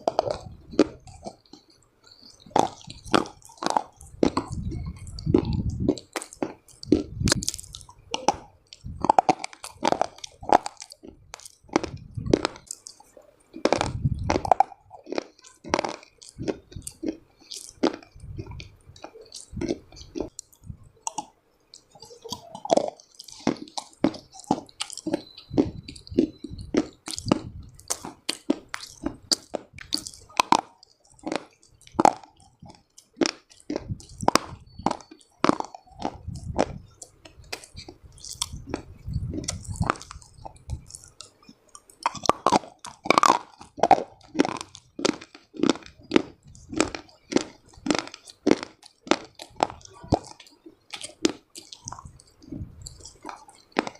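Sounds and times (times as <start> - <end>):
person crunching dry clay: 0.0 - 53.9.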